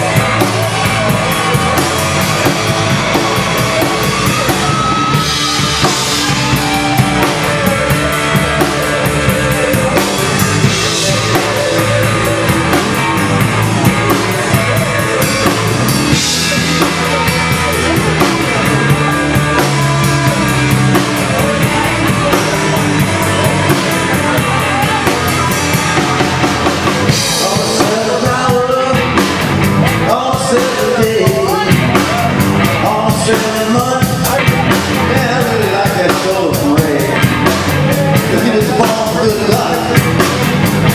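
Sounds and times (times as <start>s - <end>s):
bass guitar: 0.0s - 40.9s
drum kit beat: 0.0s - 40.9s
electric guitars: 0.0s - 40.9s.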